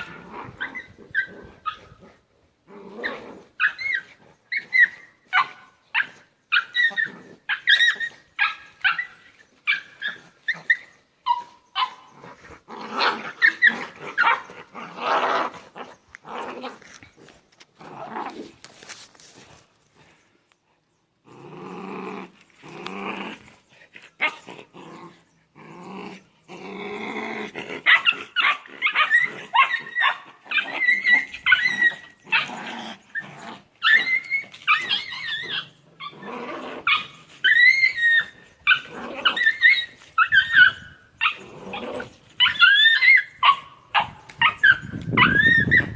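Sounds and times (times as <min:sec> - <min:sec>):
small dogs yipping and barking: 0:00.0 - 0:02.2, 0:02.9 - 0:18.4, 0:22.6 - 0:26.8, 0:27.4 - 0:45.9
small dogs growling and snarling: 0:00.0 - 0:18.8, 0:21.2 - 0:45.9.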